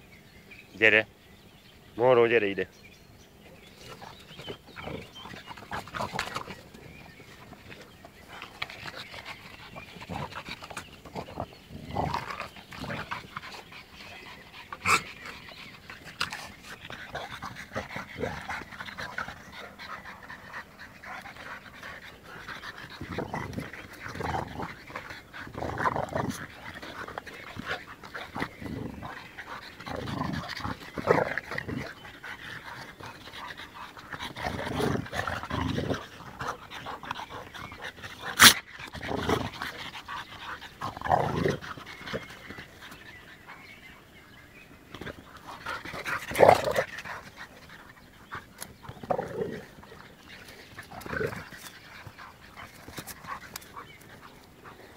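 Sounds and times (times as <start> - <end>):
dogs growling: 3.4 - 54.9
dogs panting: 3.4 - 54.9.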